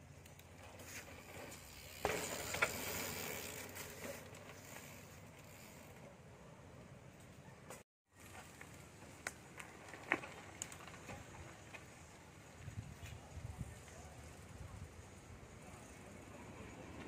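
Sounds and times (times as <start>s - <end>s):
bike tyres rolling on dirt: 0.0s - 17.0s.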